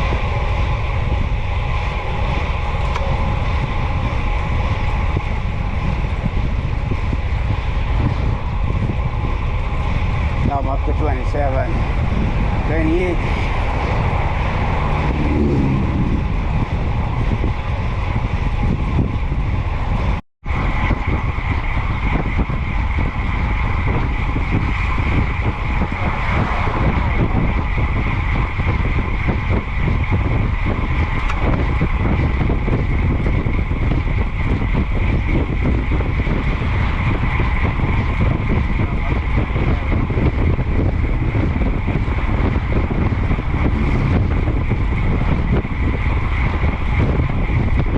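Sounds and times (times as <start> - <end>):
bicycle tyre and road noise: 0.0 - 47.9
steady high whine: 0.0 - 47.9
wind rushing over microphone: 0.0 - 47.9.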